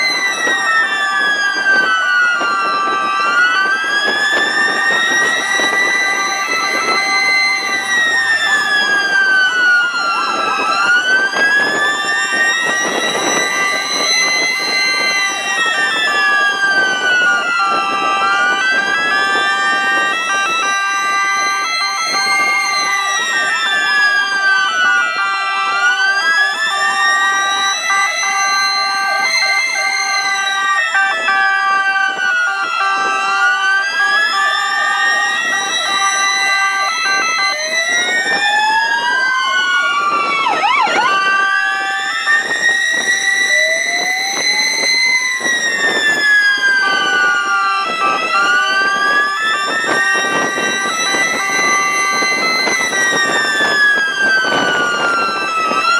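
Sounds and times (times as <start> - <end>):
ambulance siren wailing: 0.0 - 55.9
two-note siren tones: 0.0 - 55.9.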